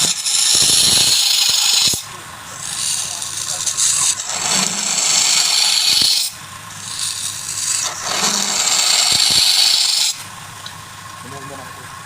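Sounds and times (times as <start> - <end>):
lathe tool scraping wood: 0.0 - 10.4
lathe motor hum: 0.0 - 12.0.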